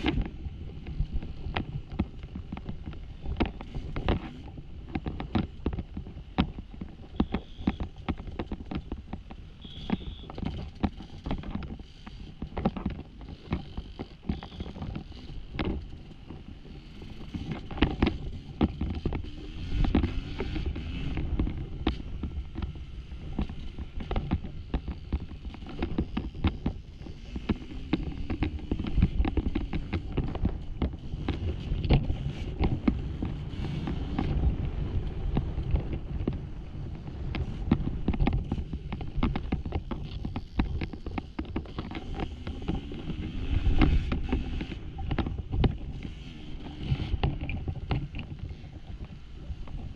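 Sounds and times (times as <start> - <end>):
wind on microphone: 0.0 - 49.9.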